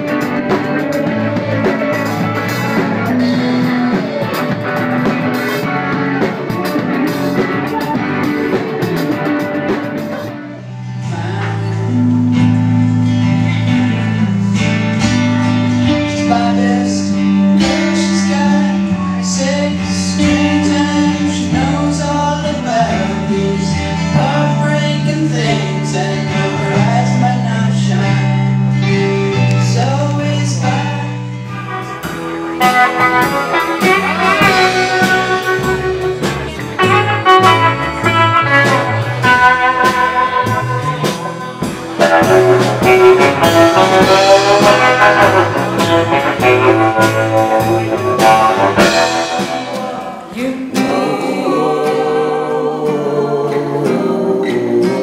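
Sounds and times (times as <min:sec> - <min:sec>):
person singing: 0:00.0 - 0:12.7, 0:15.8 - 0:28.2, 0:29.3 - 0:55.0
live band playing: 0:00.0 - 0:55.0.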